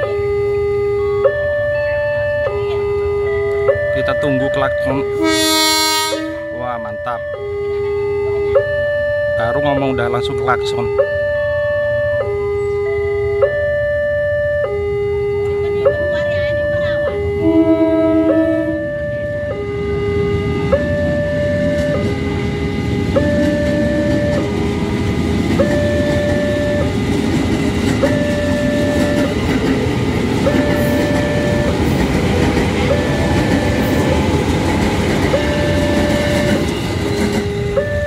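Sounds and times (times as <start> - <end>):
train rumble and wheel clatter: 0.0 - 13.5, 14.7 - 38.0
level-crossing two-tone alarm: 0.0 - 38.0.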